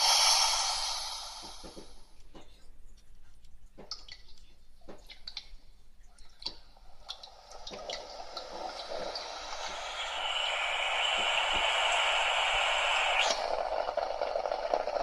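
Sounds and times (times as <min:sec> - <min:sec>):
soft steady noise: 0:00.0 - 0:15.0.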